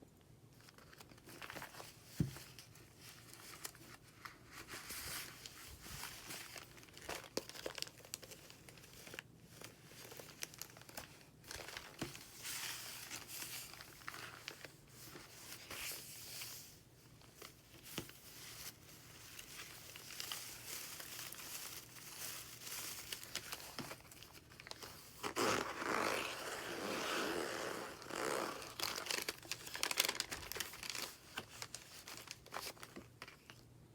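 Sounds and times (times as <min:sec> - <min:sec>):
paper pages turning and rustling: 0:00.6 - 0:26.1, 0:28.0 - 0:33.6
paper crinkling: 0:00.6 - 0:26.3, 0:28.0 - 0:33.7.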